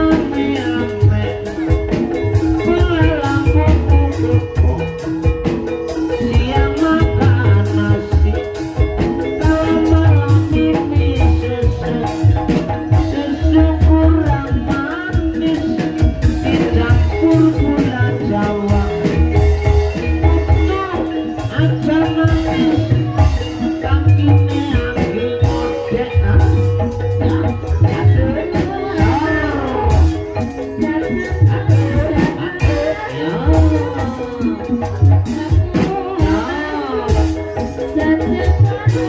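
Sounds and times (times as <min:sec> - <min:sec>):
gamelan ensemble playing: 0:00.0 - 0:39.0
low drum beats: 0:00.0 - 0:39.0.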